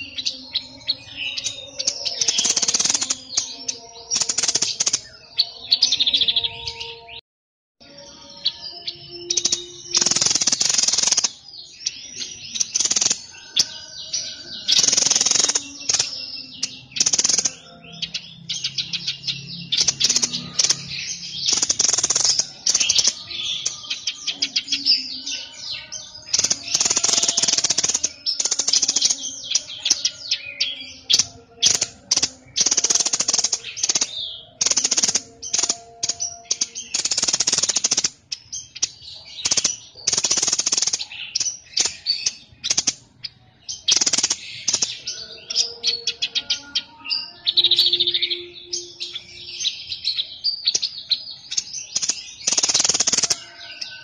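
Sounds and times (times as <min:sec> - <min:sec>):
songbird rapid rattling song: 0:00.0 - 0:06.9, 0:08.4 - 0:54.0.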